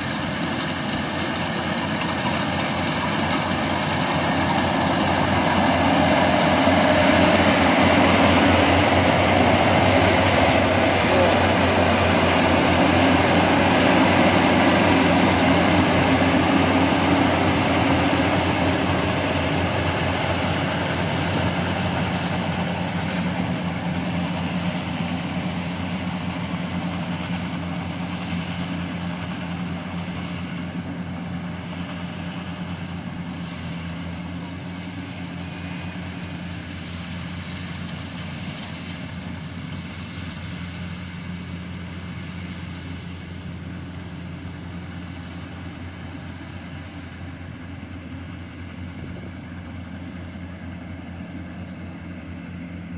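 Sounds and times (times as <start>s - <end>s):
combine harvester running: 0.0s - 52.9s.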